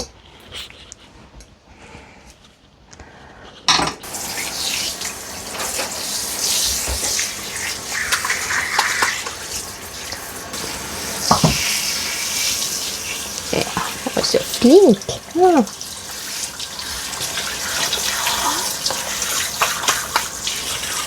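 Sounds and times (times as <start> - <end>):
tap water running: 4.0 - 21.0.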